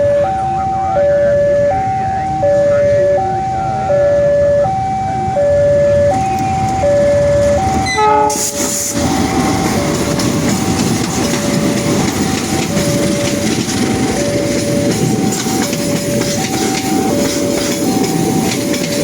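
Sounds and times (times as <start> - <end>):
train wheel and rail noise: 0.0 - 19.0.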